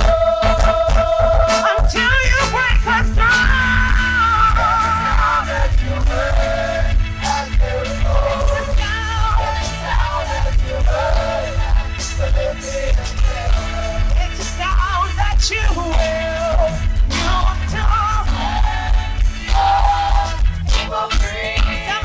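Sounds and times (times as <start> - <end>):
choir singing with vibrato: 0.0 - 22.0
drums: 0.0 - 22.0
heavy pulsing bass beat: 0.0 - 22.0.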